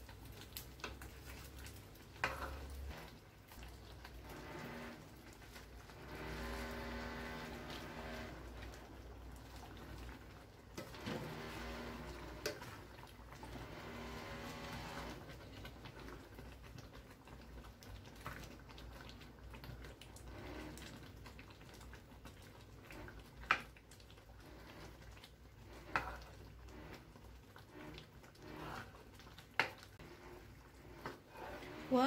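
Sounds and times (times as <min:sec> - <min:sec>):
stew bubbling: 0:00.0 - 0:32.0.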